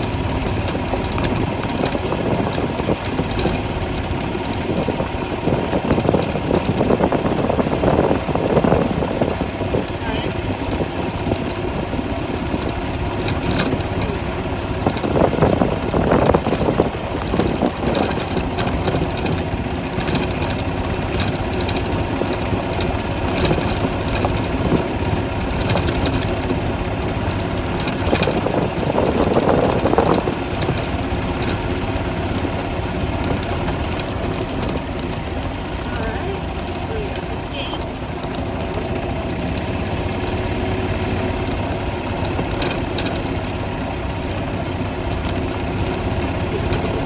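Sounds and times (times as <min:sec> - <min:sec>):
golf cart motor humming: 0:00.0 - 0:47.0
tyres on gravel: 0:00.0 - 0:47.0.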